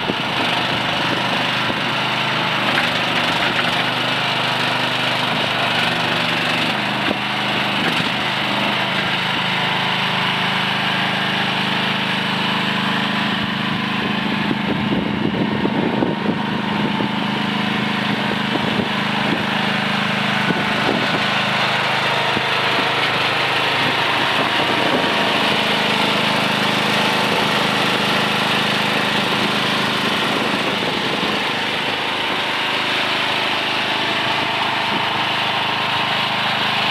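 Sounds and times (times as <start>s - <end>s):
small excavator engine running: 0.0s - 36.9s.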